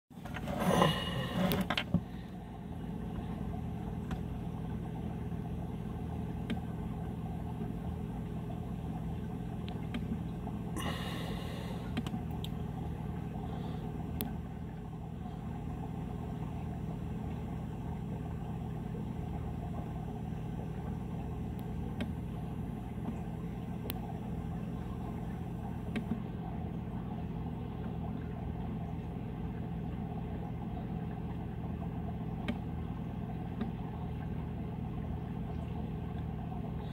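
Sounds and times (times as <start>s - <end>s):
low mechanical hum: 0.1s - 36.9s.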